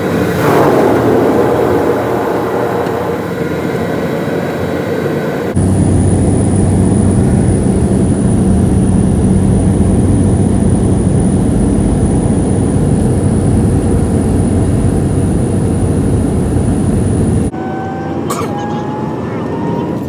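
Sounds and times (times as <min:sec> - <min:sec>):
jet engines and rushing air drone: 0:00.0 - 0:20.0
low hum: 0:00.0 - 0:20.0.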